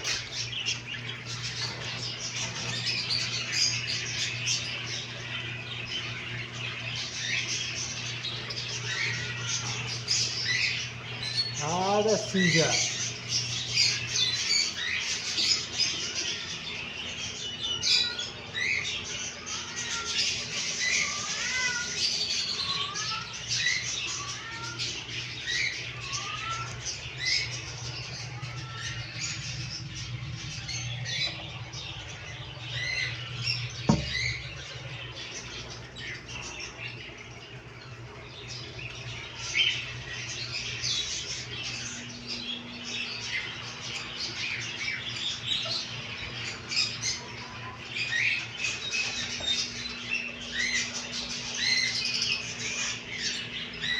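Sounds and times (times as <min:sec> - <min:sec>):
caged birds chirping and squawking: 0:00.0 - 0:53.9
steady low hum: 0:00.0 - 0:53.9.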